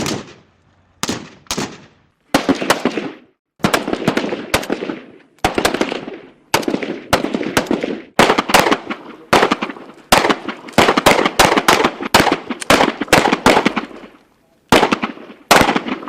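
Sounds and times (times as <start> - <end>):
gunshots echoing: 0.0 - 16.0.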